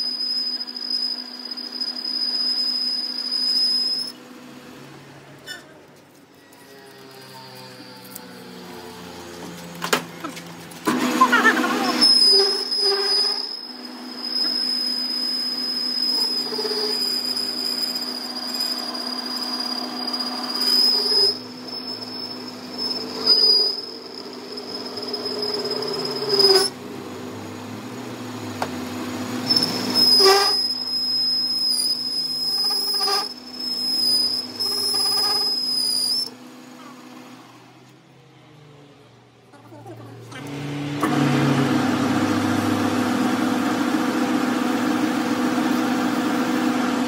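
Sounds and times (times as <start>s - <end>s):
lathe cutting tool squealing: 0.0s - 4.4s, 6.3s - 37.4s, 40.4s - 47.0s
lathe hum: 6.3s - 37.8s, 40.2s - 47.0s.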